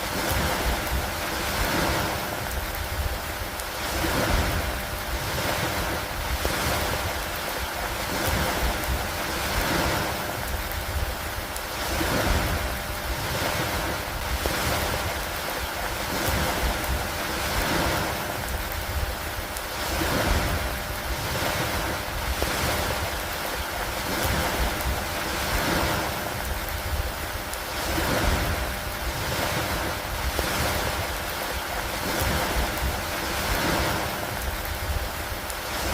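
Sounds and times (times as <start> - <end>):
rain over water: 0.0 - 35.9
wind on microphone: 0.0 - 35.9.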